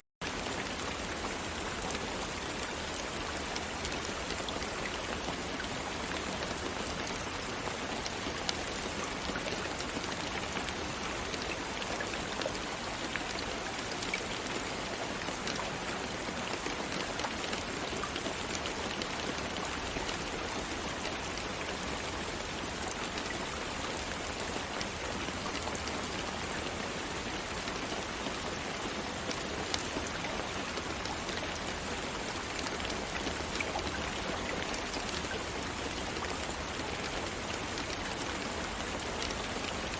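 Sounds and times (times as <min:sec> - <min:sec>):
raindrops pattering on surface: 0:00.2 - 0:39.9.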